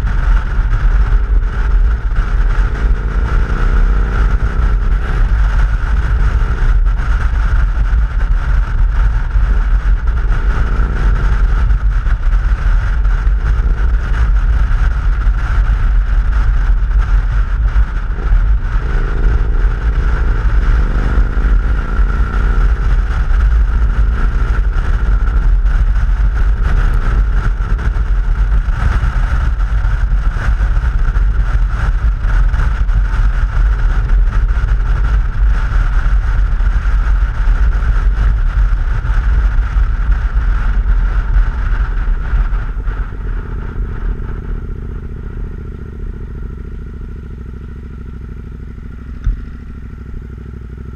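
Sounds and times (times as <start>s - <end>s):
motorcycle engine cruising: 0.0s - 50.9s
wind rumble on microphone: 0.0s - 50.9s.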